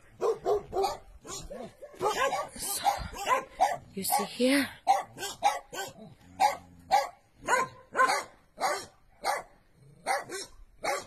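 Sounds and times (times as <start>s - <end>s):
dog barking: 0.2s - 11.0s.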